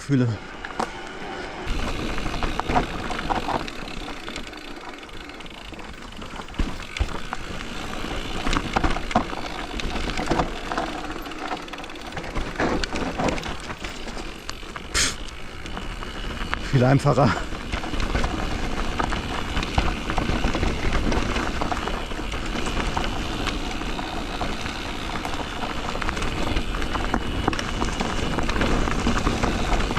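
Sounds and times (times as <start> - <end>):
bike tyres rolling over dirt: 0.0 - 29.9
bike knocks and rattles: 0.7 - 29.9.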